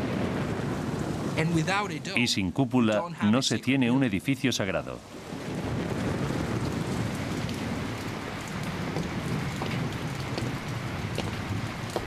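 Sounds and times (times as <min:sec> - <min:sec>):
rain splashing on stone floor: 0:00.0 - 0:03.2, 0:04.9 - 0:12.0.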